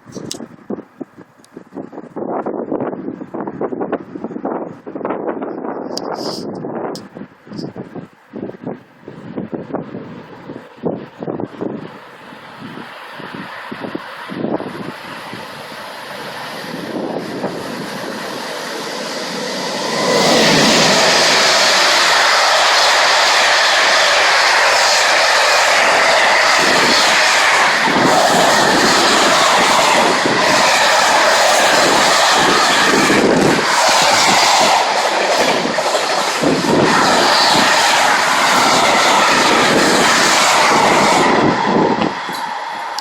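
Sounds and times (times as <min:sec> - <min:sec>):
train passing at speed: 0:07.9 - 0:43.0.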